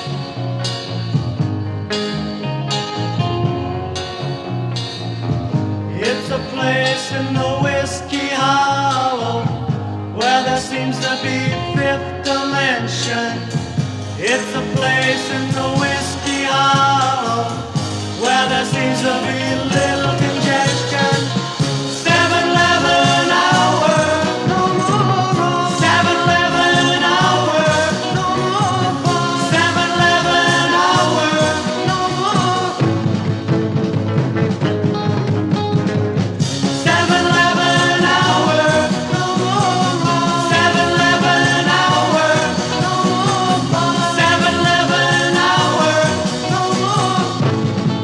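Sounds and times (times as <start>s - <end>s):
bass: 0.0s - 48.0s
drums: 0.0s - 48.0s.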